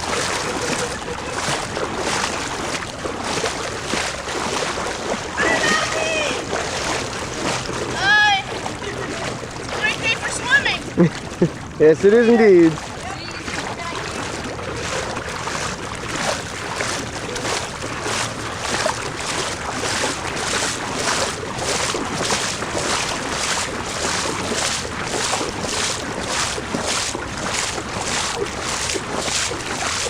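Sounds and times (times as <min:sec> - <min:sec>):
wading through water: 0:00.0 - 0:30.0.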